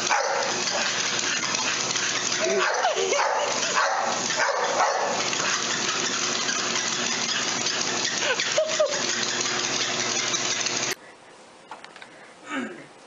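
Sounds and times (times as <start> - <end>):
squeaky glides: 0.0 - 11.0
treadmill motor whirring: 0.0 - 11.0.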